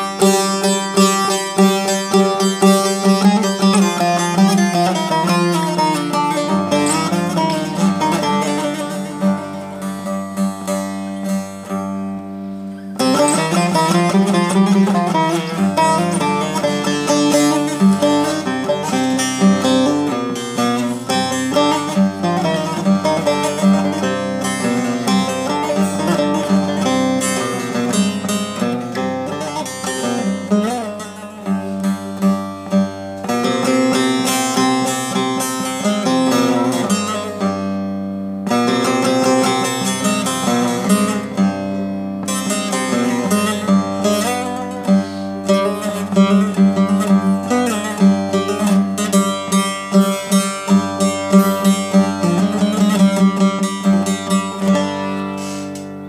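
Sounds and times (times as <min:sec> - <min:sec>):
plucked long-necked lute: 0:00.0 - 0:56.0.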